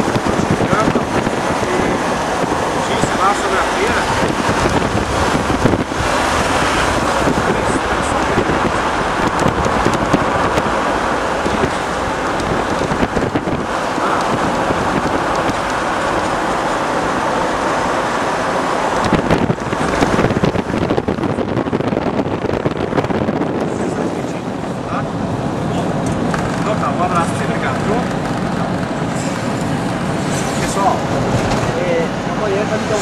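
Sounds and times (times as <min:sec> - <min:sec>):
road noise inside vehicle: 0:00.0 - 0:33.0
wind rushing over microphone: 0:00.0 - 0:33.0.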